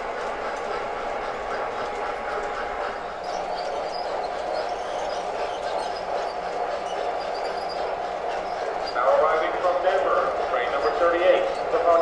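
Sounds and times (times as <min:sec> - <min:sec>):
model train motors humming: 0:00.0 - 0:12.0
wheels rolling on track: 0:00.0 - 0:12.0.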